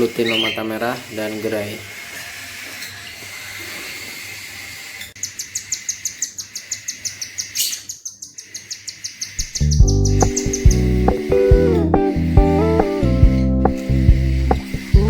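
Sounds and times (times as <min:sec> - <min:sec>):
chicks chirping begging calls: 0:00.0 - 0:15.0.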